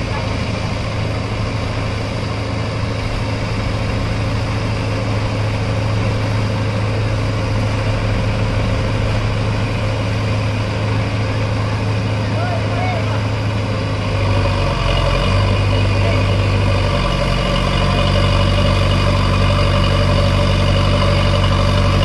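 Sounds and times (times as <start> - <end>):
diesel engines droning: 0.0 - 22.0.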